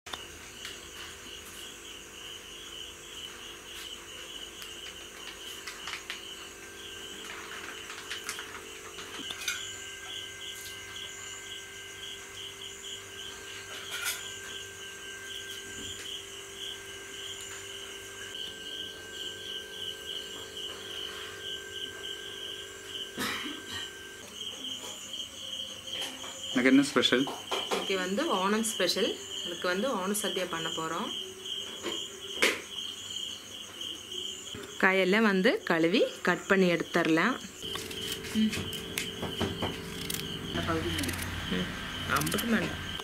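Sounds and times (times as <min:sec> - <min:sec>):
insect trilling: 0:01.3 - 0:43.0.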